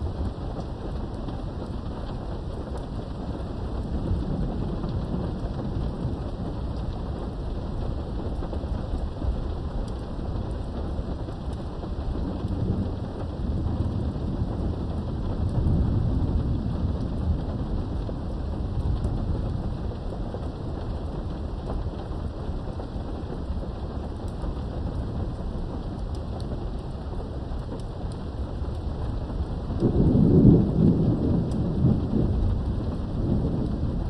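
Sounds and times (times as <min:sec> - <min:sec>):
low rumble of thunder: 0:00.0 - 0:34.0
rain through a window: 0:00.0 - 0:34.0.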